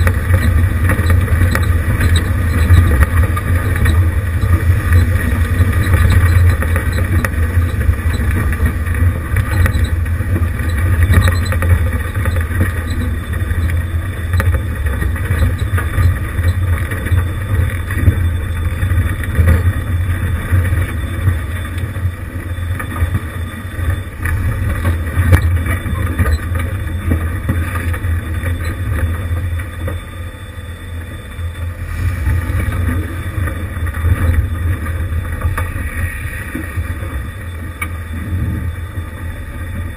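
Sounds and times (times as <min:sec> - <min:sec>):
car engine running at low speed: 0:00.0 - 0:39.9.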